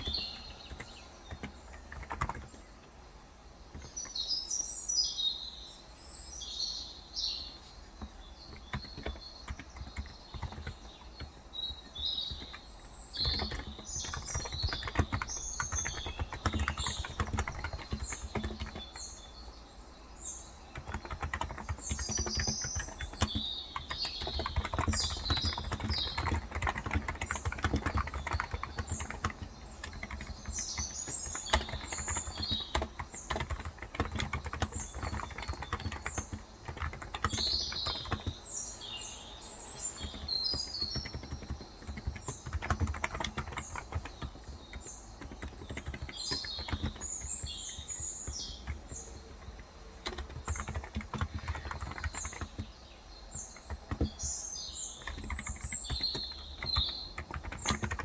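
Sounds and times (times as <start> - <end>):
keyboard typing: 0.0 - 3.0, 3.7 - 4.3, 7.9 - 19.5, 20.4 - 58.0
small birds chirping: 0.0 - 58.0.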